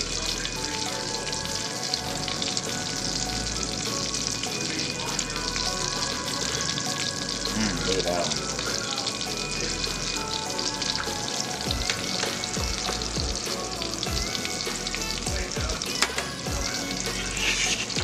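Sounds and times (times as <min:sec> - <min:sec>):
meat sizzling and crackling: 0:00.0 - 0:18.0.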